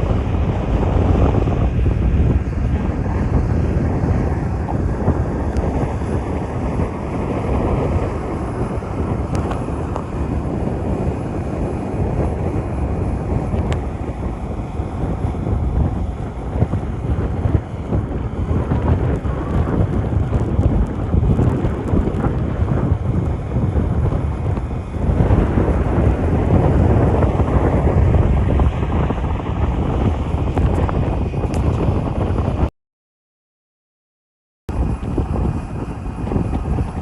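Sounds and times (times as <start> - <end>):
jet engine rumbling: 0.0 - 32.7, 34.7 - 37.0
wind buffeting microphone: 0.0 - 32.7, 34.7 - 37.0.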